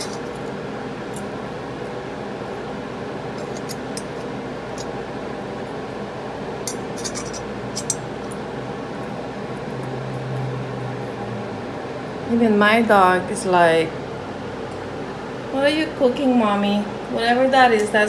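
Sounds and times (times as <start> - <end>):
room hum: 0.0 - 18.0.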